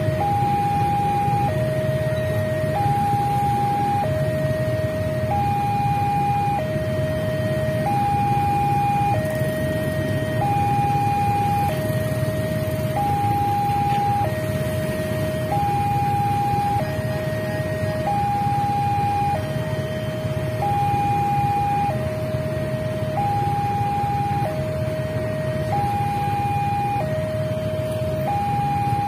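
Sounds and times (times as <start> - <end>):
level crossing two-tone alarm: 0.0 - 29.0
low rumble of traffic: 0.0 - 29.0.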